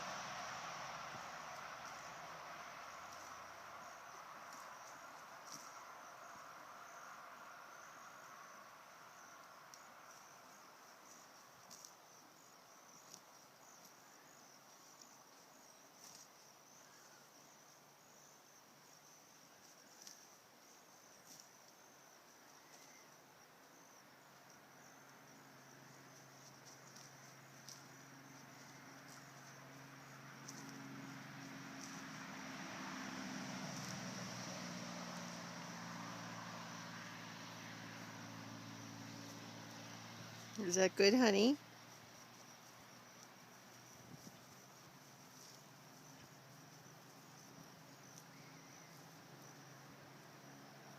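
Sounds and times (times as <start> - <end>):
crickets chirring: 0.0 - 50.9.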